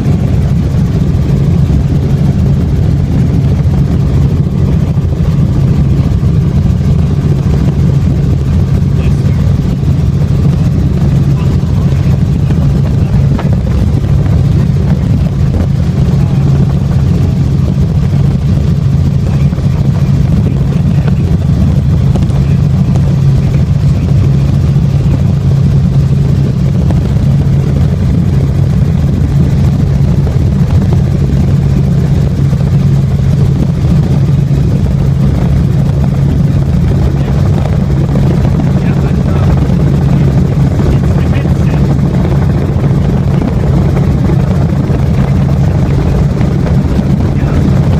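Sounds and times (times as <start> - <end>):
helicopter engine and rotor drone: 0.0 - 47.9.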